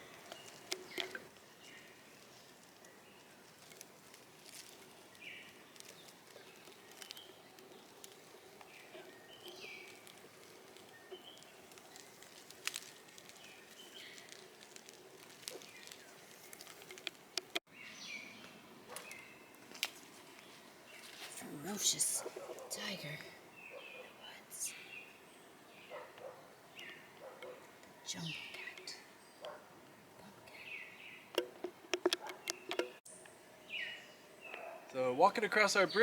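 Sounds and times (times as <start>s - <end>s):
birds chirping: 0.0s - 19.7s, 20.3s - 36.0s.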